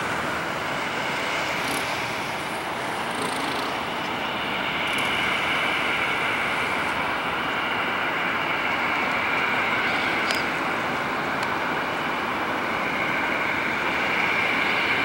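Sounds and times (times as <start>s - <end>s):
jet engines taxiing with whine: 0.0s - 15.0s.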